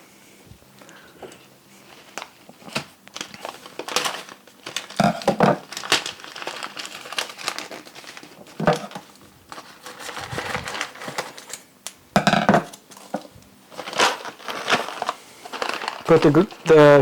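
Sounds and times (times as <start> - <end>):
bag crinkling: 1.9 - 11.6, 12.7 - 17.0
coffee beans rattling into grinder: 2.6 - 11.6, 12.2 - 17.0.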